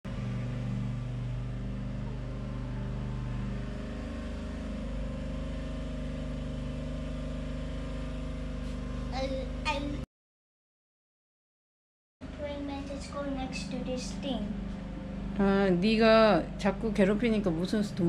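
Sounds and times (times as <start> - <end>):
low machine hum: 0.1 - 10.1, 12.2 - 18.0.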